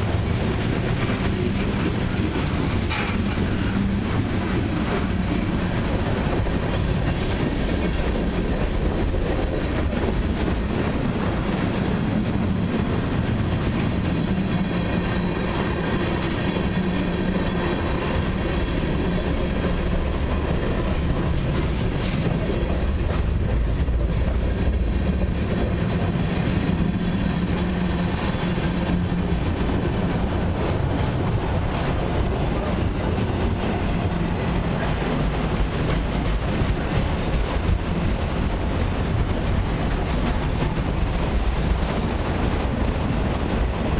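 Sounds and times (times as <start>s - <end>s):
freight train rolling past: 0.0s - 43.9s
wheels clicking over rail joints: 0.0s - 43.9s.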